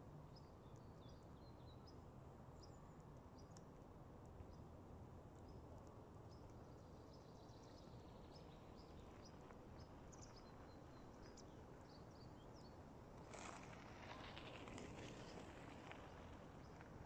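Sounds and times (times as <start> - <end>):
low steady hiss: 0.0 - 17.0
faint birds chirping: 0.2 - 17.0.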